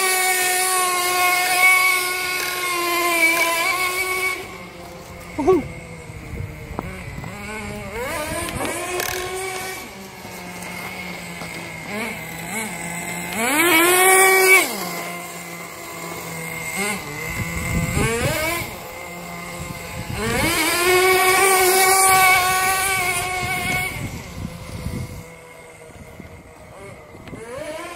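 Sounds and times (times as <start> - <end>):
remote control car motor whining: 0.0 - 27.9.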